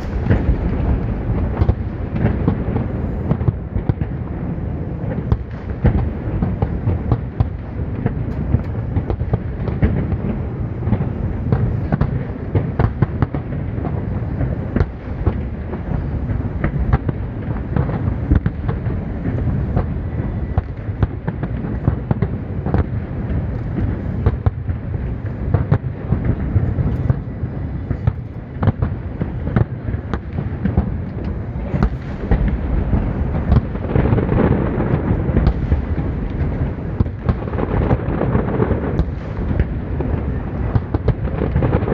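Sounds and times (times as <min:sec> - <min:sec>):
deep rumble of firework bursts: 0:00.0 - 0:41.9
sharp firework bangs and crackles: 0:00.0 - 0:41.9.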